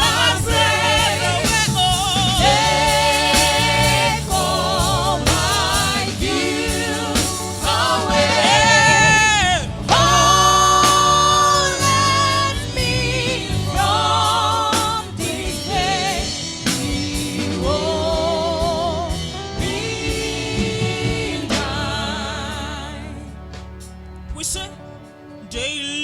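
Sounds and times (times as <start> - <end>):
person singing with vibrato: 0.0 - 23.4
low instrumental accompaniment: 0.0 - 26.0.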